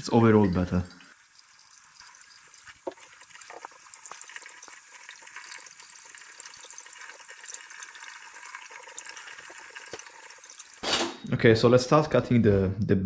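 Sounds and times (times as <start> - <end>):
kitchen tap running: 0.0 - 11.2.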